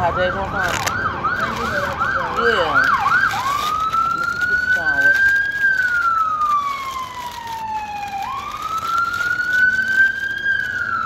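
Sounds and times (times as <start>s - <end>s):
emergency siren wailing: 0.0s - 11.0s
paper wrapping crinkling: 0.5s - 11.0s.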